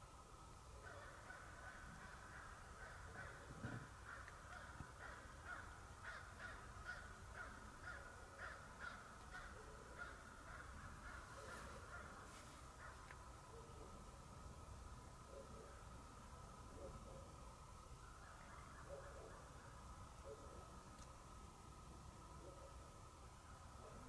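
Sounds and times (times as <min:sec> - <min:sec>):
faint bird calls: 0:00.6 - 0:24.0.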